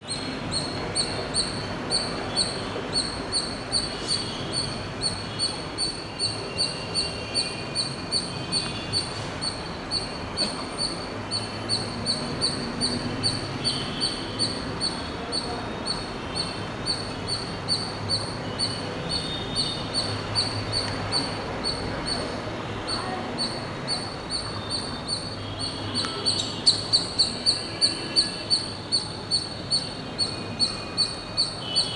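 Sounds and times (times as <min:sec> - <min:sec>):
squirrel chirping: 0:00.0 - 0:31.9.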